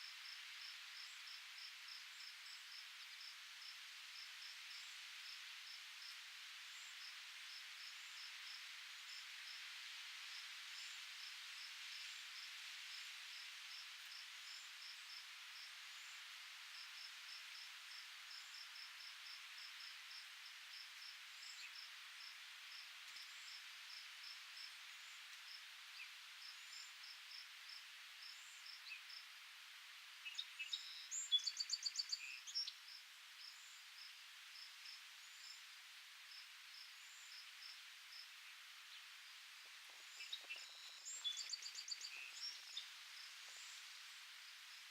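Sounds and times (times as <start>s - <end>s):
steady airy hiss: 0.0s - 44.9s.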